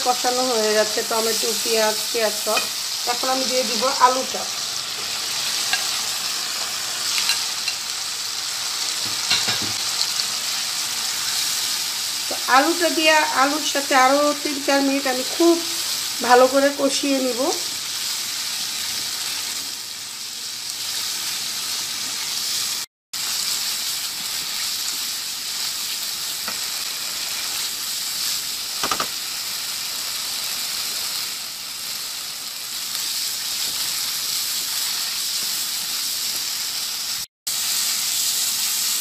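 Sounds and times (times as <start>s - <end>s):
potatoes sizzling in oil: 0.0s - 39.0s.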